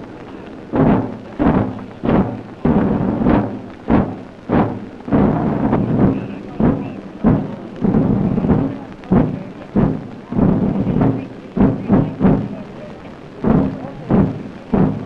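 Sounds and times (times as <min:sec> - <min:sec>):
drums beating slow rhythm: 0:00.0 - 0:15.0.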